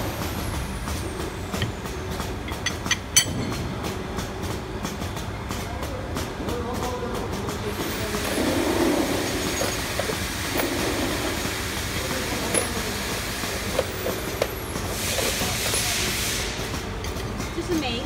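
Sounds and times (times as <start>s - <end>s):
workshop machinery noise: 0.0s - 18.0s.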